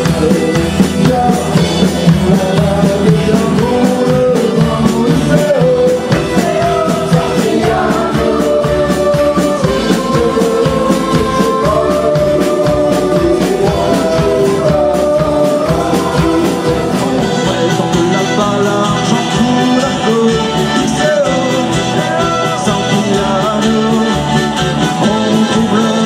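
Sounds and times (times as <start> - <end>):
person singing: 0.0 - 26.0
pop-rock band playing: 0.0 - 26.0
steady drum beat: 0.0 - 26.0.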